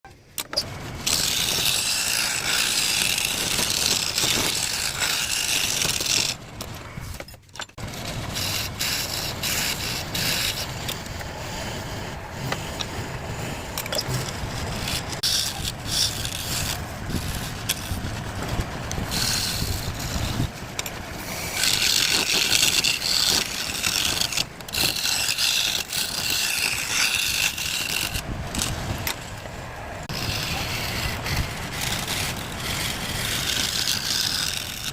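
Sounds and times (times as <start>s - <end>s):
hand scraping on wood: 0.7s - 34.9s.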